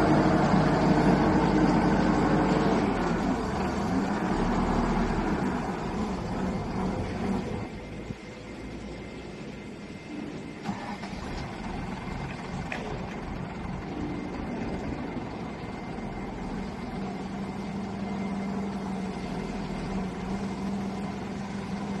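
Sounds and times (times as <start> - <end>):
loader engine running: 0.0 - 22.0.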